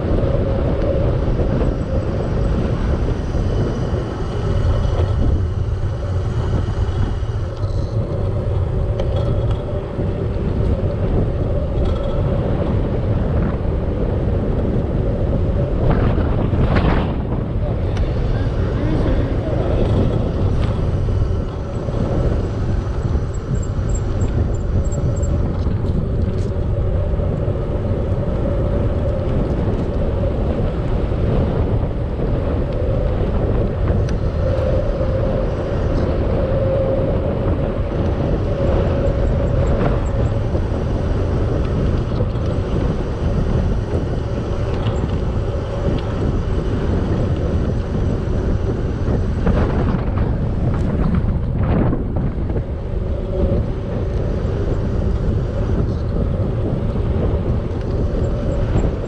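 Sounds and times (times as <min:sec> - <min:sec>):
bicycle road noise: 0:00.0 - 0:59.0
steady mid-pitched hum: 0:00.0 - 0:59.0
wind rumble on microphone: 0:00.0 - 0:59.0.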